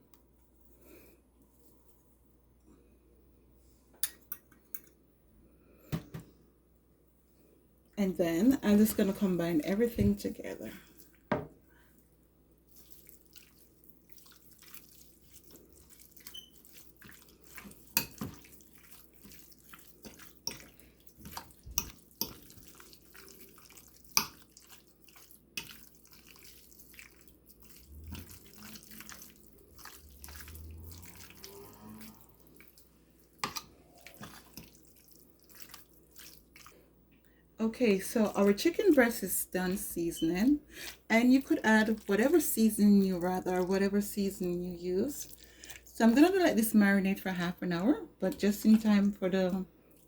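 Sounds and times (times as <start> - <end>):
wet squelches of mixing chicken: 7.8 - 50.0.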